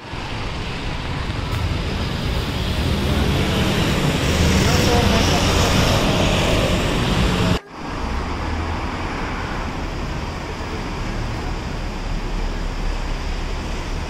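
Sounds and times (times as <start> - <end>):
loud busy din: 0.0 - 14.0
road traffic: 0.0 - 14.0.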